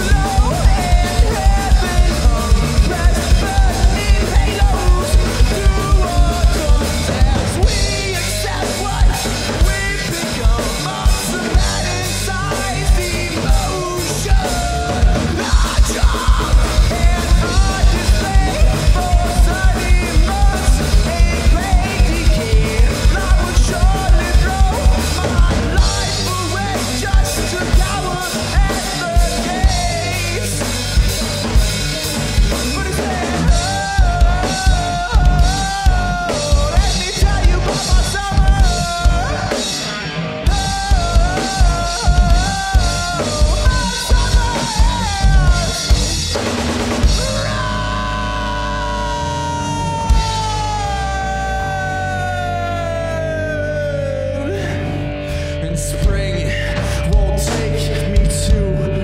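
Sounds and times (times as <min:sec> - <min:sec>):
drum kit beating fast rhythm: 0:00.0 - 0:59.0
electric guitar: 0:00.0 - 0:59.0.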